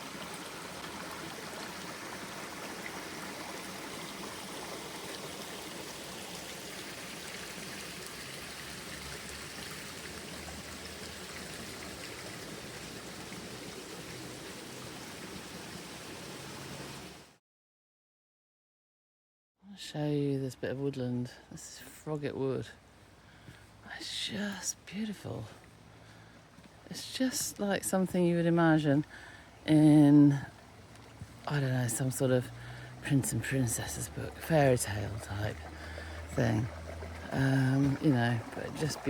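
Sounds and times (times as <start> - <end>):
stream water flowing: 0.0 - 17.3, 22.4 - 39.0.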